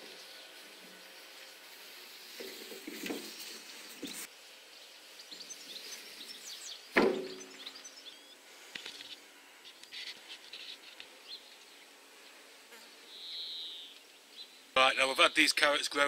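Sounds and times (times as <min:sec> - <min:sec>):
small birds chirping: 0:02.3 - 0:16.0.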